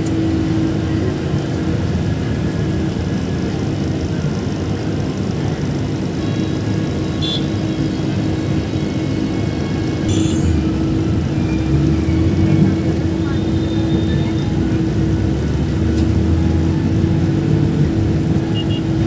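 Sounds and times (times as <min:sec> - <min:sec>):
motorcycle and scooter engines: 0:00.0 - 0:19.0
traffic rumble: 0:00.0 - 0:19.0.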